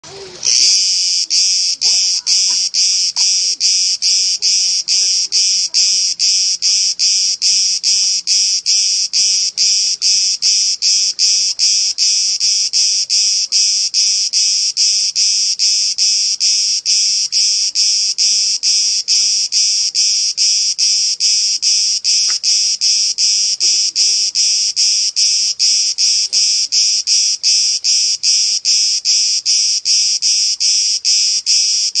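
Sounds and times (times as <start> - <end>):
cicadas buzzing: 0.0 - 32.0.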